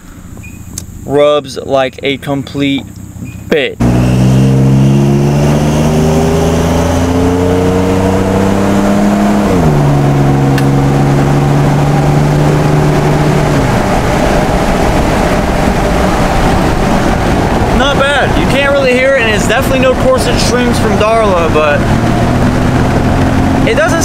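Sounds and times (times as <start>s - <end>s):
road and tyre noise: 0.0s - 24.0s
engine accelerating: 2.8s - 24.0s.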